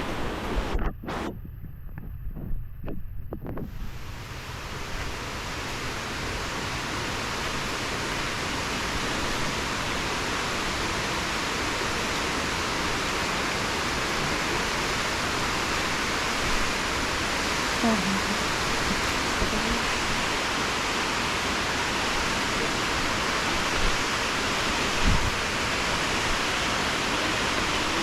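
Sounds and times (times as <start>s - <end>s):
waterfall rushing: 0.0s - 1.3s, 3.7s - 28.0s.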